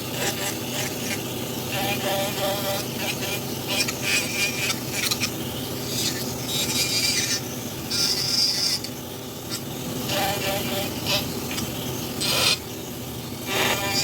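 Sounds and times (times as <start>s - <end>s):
rasp strokes on wood: 0.0s - 12.7s
steady low hum: 0.0s - 14.0s.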